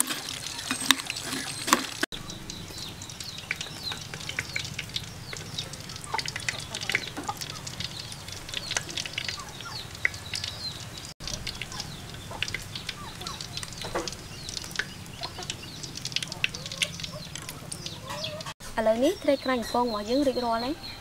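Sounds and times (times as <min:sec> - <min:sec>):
chickens clucking: 0:00.0 - 0:21.0
small birds chirping: 0:00.2 - 0:21.0.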